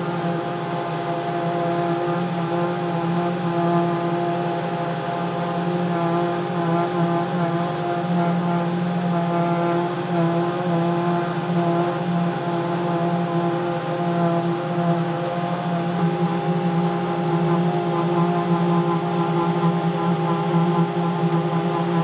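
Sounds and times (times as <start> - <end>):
paving machine droning: 0.0 - 22.0.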